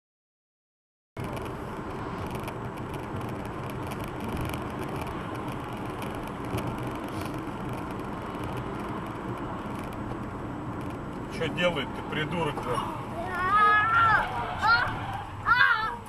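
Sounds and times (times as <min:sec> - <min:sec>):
car engine and tyre noise: 0:01.2 - 0:16.0.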